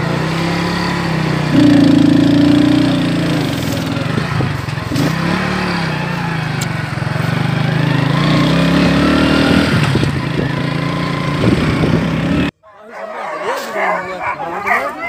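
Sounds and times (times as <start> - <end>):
small motorcycle engine revving: 0.0 - 12.5.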